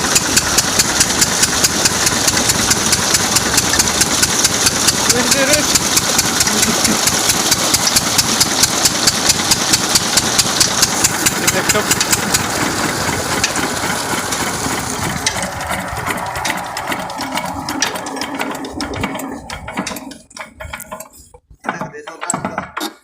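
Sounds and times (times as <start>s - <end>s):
diesel water pump engine running: 0.0s - 21.4s.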